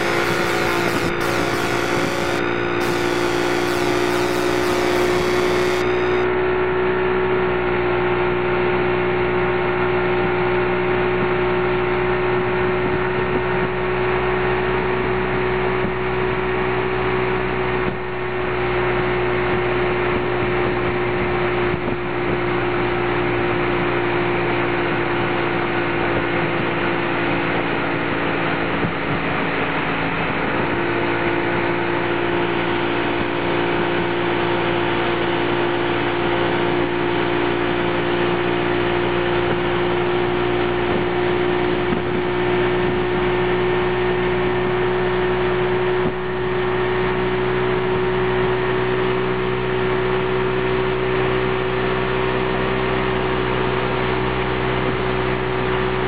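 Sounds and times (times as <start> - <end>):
boat engine drone: 0.0 - 56.0.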